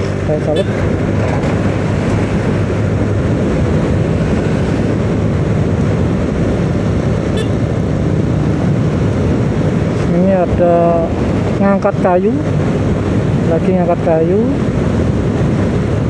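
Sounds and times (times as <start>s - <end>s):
vehicle engine tyre and wind noise: 0.0s - 16.0s.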